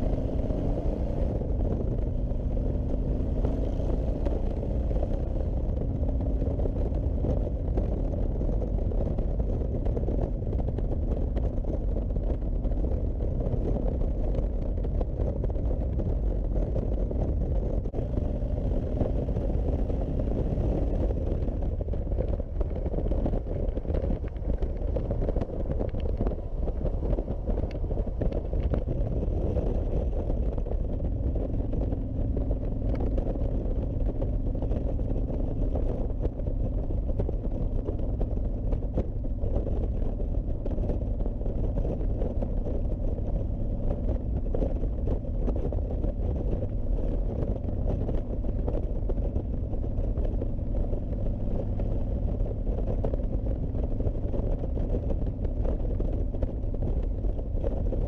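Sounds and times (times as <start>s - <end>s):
motorcycle engine rumble: 0.0s - 58.0s
steady engine hum: 0.0s - 58.0s
wind rush over microphone: 0.0s - 58.0s.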